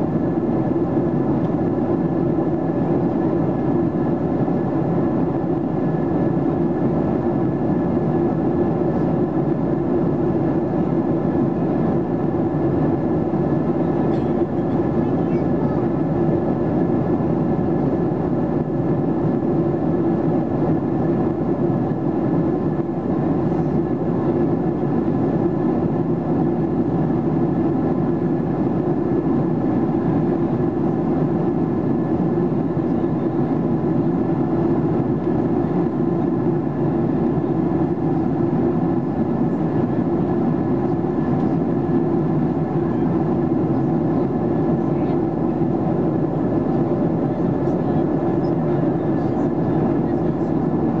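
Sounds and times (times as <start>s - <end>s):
airplane cabin drone: 0.0s - 51.0s
faint steady engine whines: 0.0s - 51.0s.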